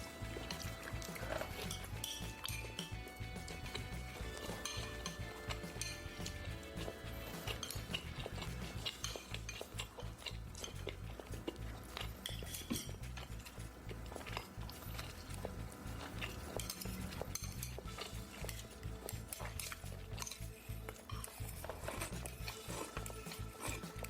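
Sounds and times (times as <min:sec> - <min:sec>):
utensils clinking and scraping dishes: 0:00.0 - 0:24.0.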